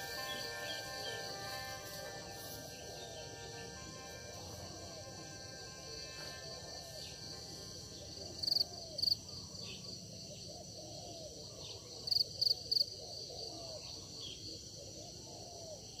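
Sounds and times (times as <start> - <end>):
crickets chirping chorus: 0.0 - 16.0
loud insect chirps: 0.0 - 16.0.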